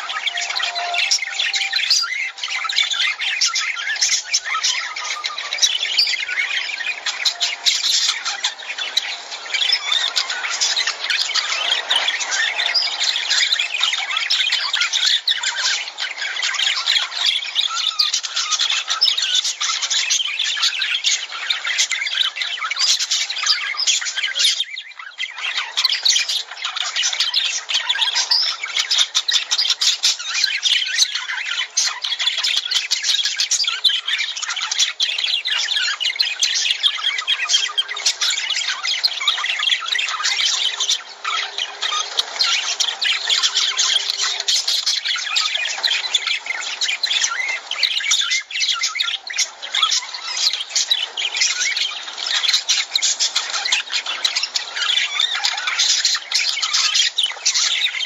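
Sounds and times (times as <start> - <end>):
lovebirds chattering and squawking: 0.0 - 58.0.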